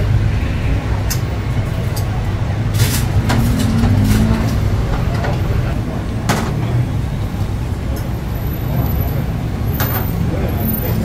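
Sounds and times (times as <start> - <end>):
low rumble of road traffic: 0.0 - 11.0.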